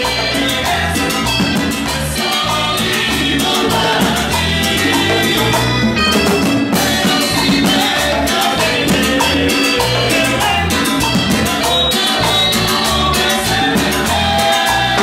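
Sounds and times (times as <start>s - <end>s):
bass line: 0.0s - 15.0s
congas: 0.0s - 15.0s
voices singing: 0.0s - 15.0s.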